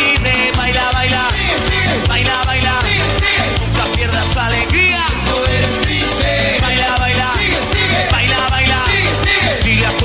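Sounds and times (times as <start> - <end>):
bass and drum beat: 0.0 - 10.0.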